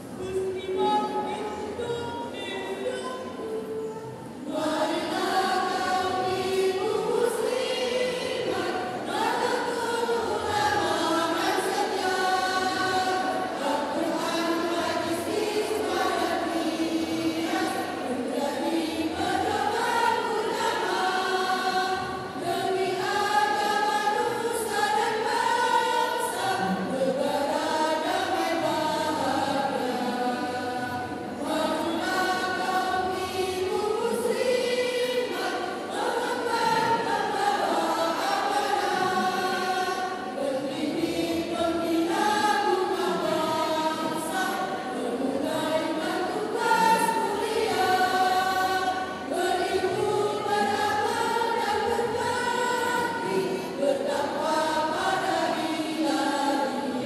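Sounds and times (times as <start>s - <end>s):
women's choir singing: 0.0s - 57.0s.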